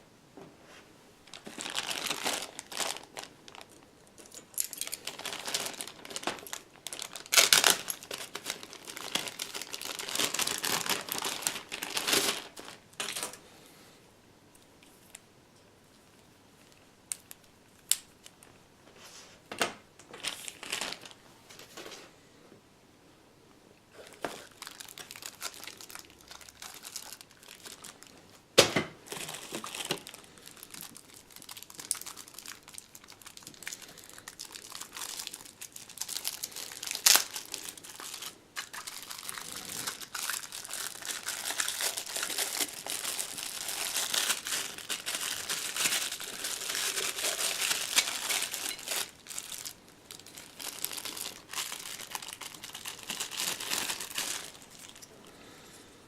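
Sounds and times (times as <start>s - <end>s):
packaging crinkling and rustling: 1.2s - 13.4s, 20.0s - 22.0s, 23.9s - 55.2s.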